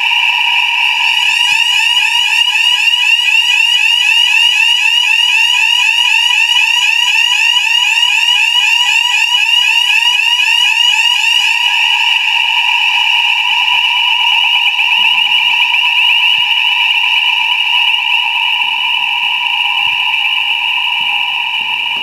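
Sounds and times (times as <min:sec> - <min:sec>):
electronic fire alarm: 0:00.0 - 0:22.0.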